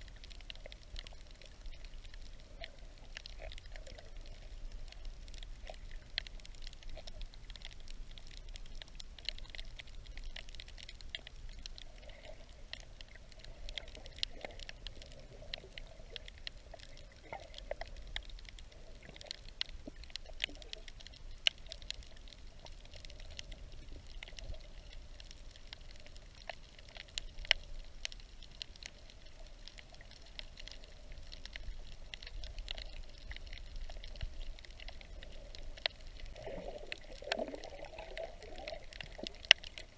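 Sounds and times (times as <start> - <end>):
fine crackling clicks: 0.0 - 39.9
muffled underwater wash: 0.0 - 39.9.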